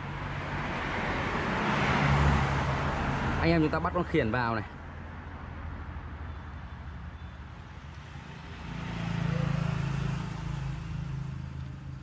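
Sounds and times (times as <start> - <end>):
motor vehicle passing: 0.0 - 3.7, 5.2 - 12.0
road traffic rumble: 0.0 - 12.0.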